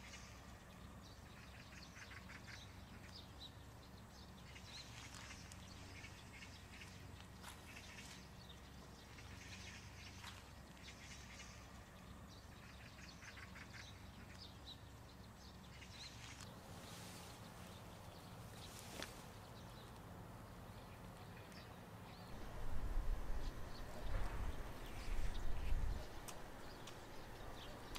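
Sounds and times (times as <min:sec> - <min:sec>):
low steady hum: 0:00.0 - 0:27.9
small birds chirping: 0:00.0 - 0:27.9.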